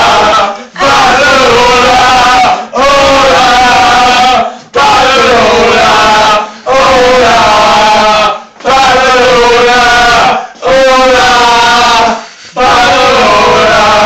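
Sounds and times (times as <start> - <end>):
men chanting a song: 0.0 - 14.0.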